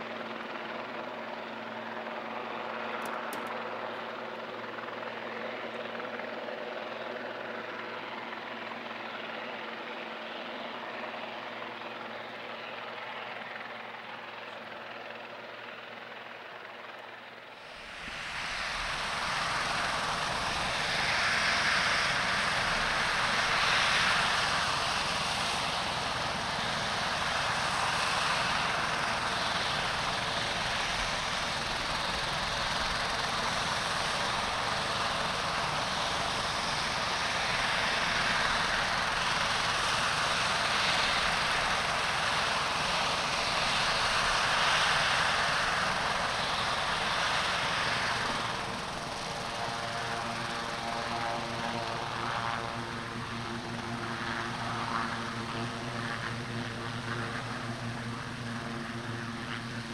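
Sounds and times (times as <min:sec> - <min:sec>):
helicopter turbine and rotor noise: 0:00.0 - 0:59.9.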